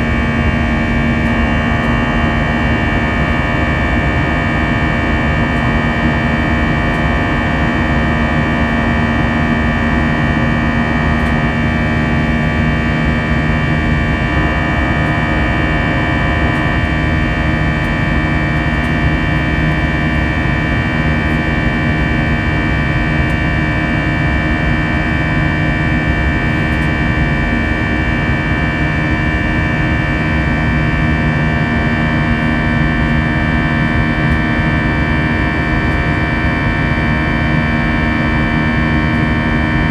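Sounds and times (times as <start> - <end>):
jet engines drone in cabin: 0.0 - 39.9.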